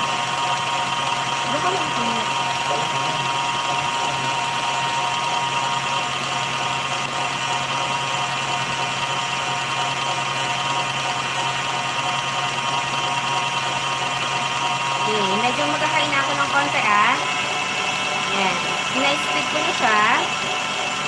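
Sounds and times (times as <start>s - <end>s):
stand mixer whisking: 0.0s - 21.0s.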